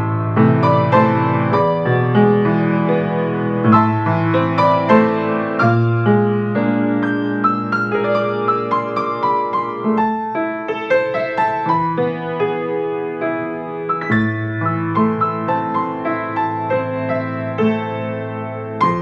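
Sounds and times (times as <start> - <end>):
piano piece: 0.0 - 19.0.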